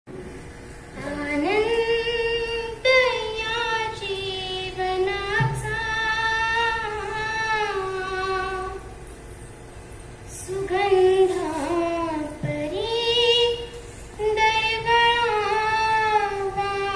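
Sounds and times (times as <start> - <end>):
girl singing: 1.0 - 8.9, 10.3 - 16.9.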